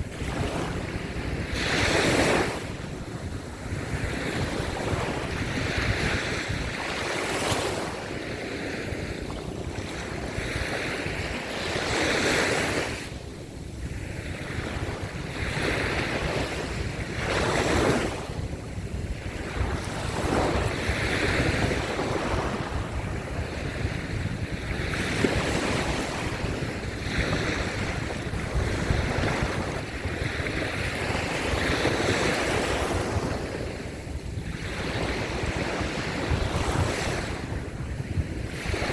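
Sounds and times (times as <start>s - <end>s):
surf waves washing on sand: 0.0s - 38.9s
wind buffeting microphone: 0.0s - 38.9s.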